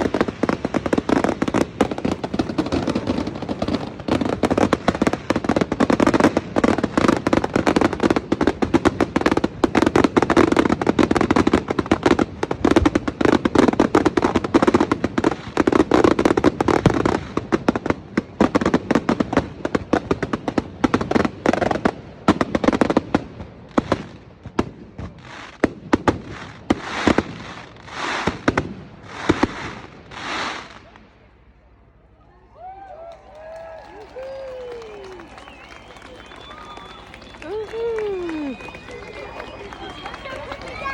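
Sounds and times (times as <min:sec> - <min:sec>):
fireworks crackling and banging: 0:00.0 - 0:31.5, 0:32.6 - 0:40.9.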